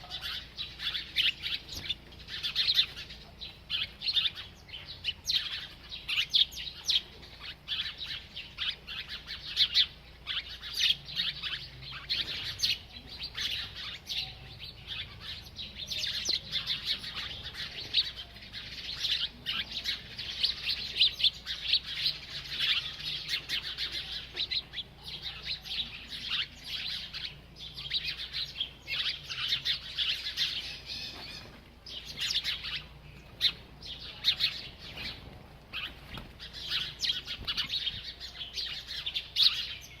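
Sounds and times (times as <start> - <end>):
small bird chirping rapidly: 0.0 - 40.0.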